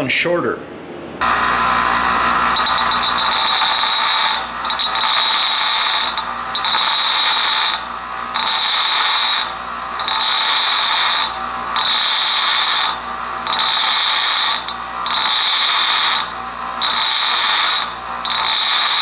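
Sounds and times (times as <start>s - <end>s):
bench grinder grinding steel: 1.2s - 19.0s.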